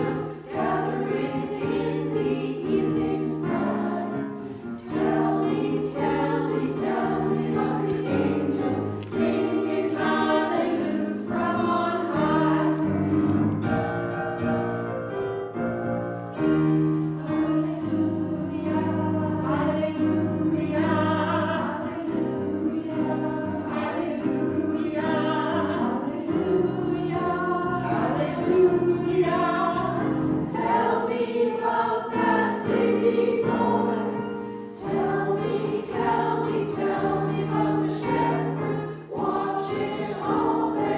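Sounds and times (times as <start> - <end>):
women's choir singing: 0.0 - 13.7, 16.4 - 40.9
piano accompaniment: 0.0 - 40.9.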